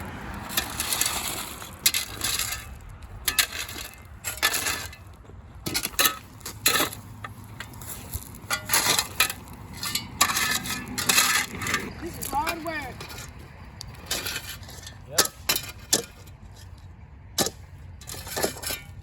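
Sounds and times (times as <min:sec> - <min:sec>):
hand tools scraping gravel: 0:00.0 - 0:19.0.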